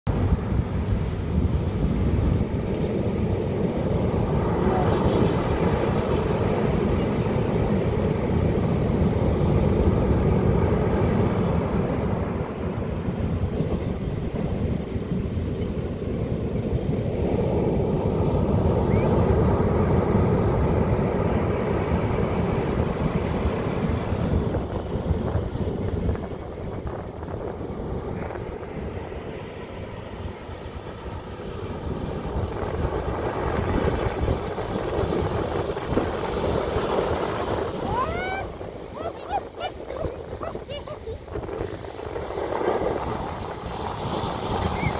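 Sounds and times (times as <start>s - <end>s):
ocean surf breaking on beach: 0.1s - 44.9s.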